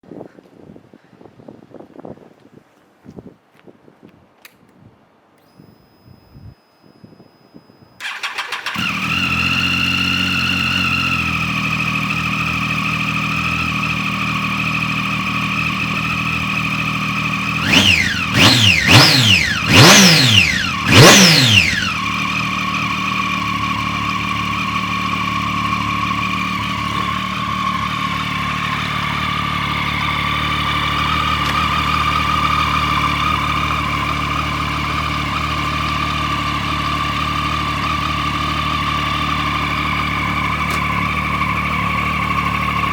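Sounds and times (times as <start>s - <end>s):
motorcycle engine idling: 8.0s - 42.9s
motorcycle throttle revving: 8.0s - 42.9s.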